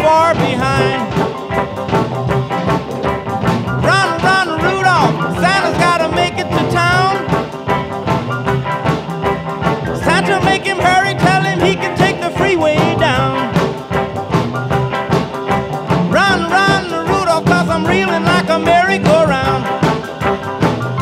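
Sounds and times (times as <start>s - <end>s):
rock and roll music: 0.0s - 21.0s.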